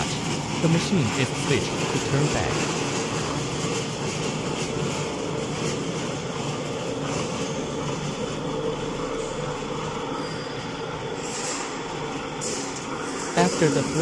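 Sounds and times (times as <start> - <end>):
thread rolling machine running: 0.0 - 14.0.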